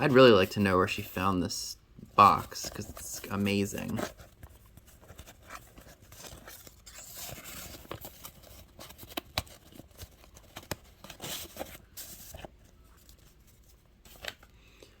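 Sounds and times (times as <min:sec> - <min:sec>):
paper rustling and crinkling: 0:02.2 - 0:14.5.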